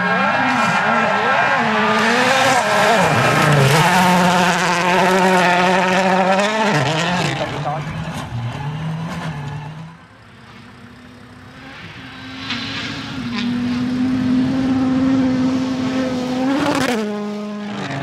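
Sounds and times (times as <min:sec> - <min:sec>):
rally car engine at high revs: 0:00.0 - 0:18.0.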